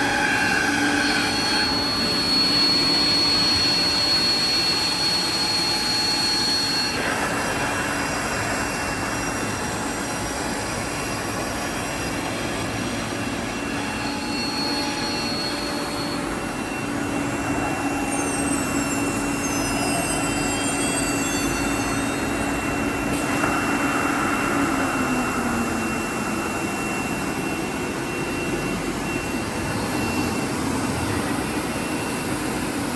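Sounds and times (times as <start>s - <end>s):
cnc router whining: 0.0s - 32.9s.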